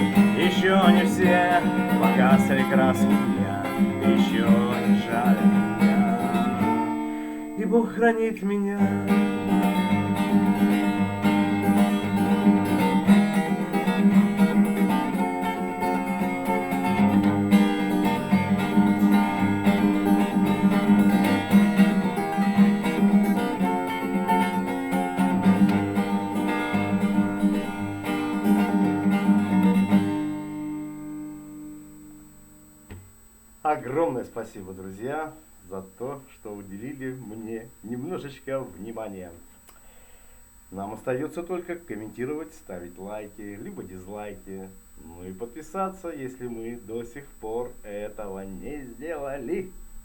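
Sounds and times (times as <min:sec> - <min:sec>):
acoustic guitar strumming: 0:00.0 - 0:50.0.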